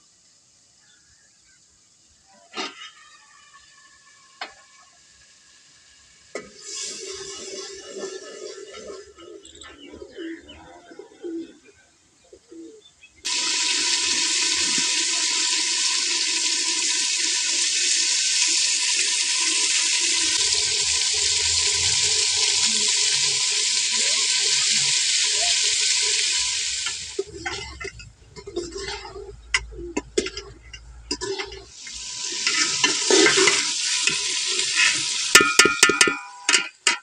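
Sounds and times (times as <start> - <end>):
vegetables sizzling in hot oil: 0.0 - 8.5, 13.3 - 29.8, 30.6 - 37.0.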